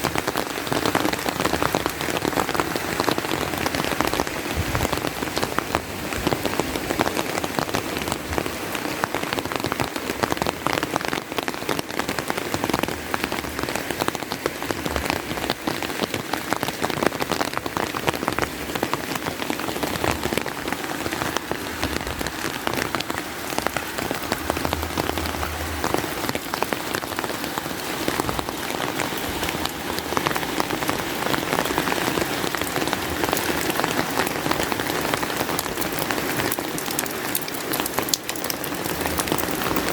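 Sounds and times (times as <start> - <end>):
raindrops ticking: 0.0 - 39.9
steady rain: 0.0 - 39.9.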